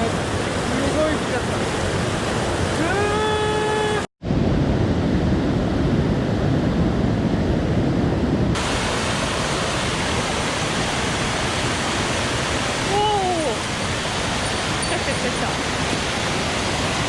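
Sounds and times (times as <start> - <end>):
rushing mountain stream: 0.0 - 4.1, 6.2 - 17.0.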